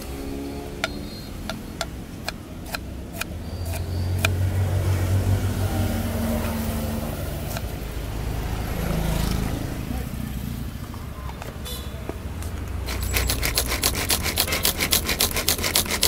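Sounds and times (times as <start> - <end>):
vehicle engine drone: 0.0 - 16.0.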